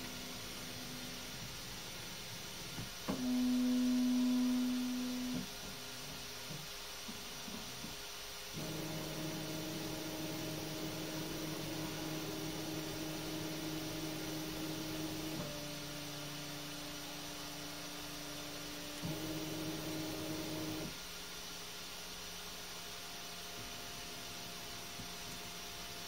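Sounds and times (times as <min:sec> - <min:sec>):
printer motors whining hum: 0:00.0 - 0:21.1
faint steady hum: 0:00.0 - 0:26.0.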